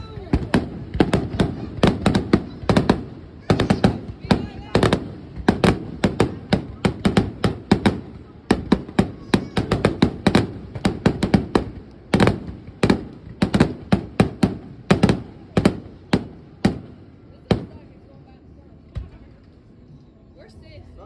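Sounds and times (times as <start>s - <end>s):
fireworks bangs: 0.0s - 17.9s.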